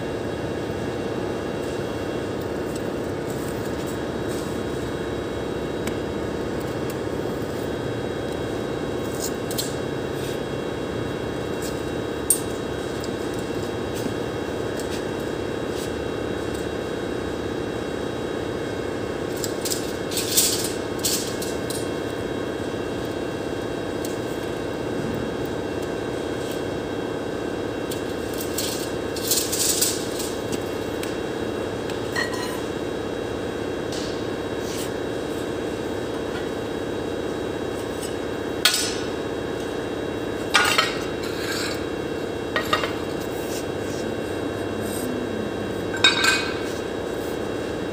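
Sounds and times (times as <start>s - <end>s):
steady mechanical hum: 0.0s - 47.9s.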